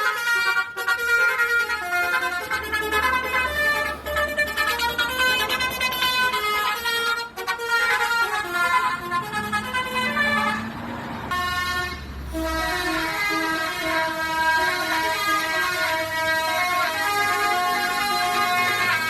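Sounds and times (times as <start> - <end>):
low engine rumble: 0.0 - 19.0
multi-tone bus horns tootling tunes: 0.0 - 19.0.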